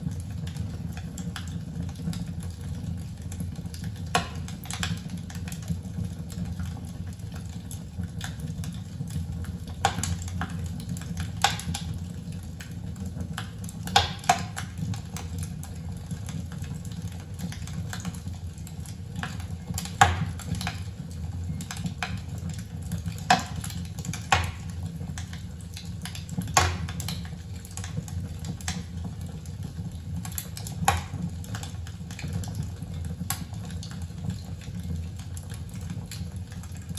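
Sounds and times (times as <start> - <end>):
log fire crackling and popping: 0.0 - 36.9.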